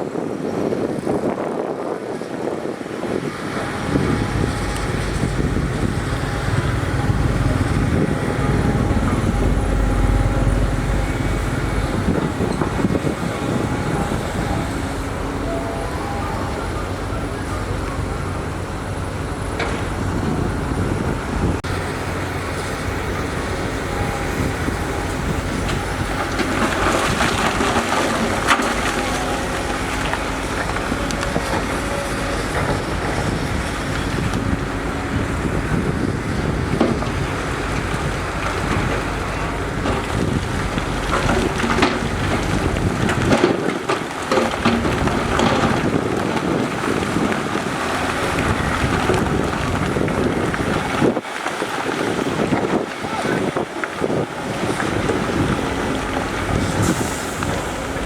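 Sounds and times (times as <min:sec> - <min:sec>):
heavy machinery engines running: 0:00.1 - 0:58.0.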